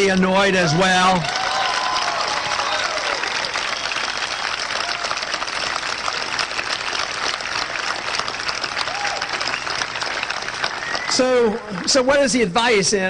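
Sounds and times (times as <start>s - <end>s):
large crowd applauding: 0.0s - 12.8s.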